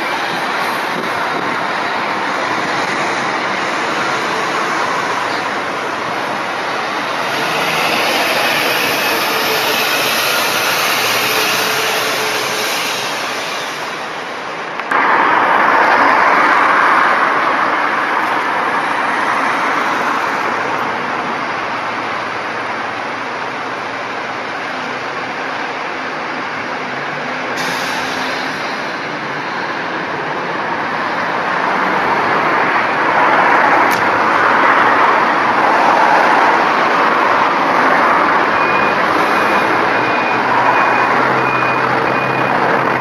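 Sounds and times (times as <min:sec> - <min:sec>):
bus engines running: 0:00.0 - 0:43.0
traffic noise: 0:00.0 - 0:43.0.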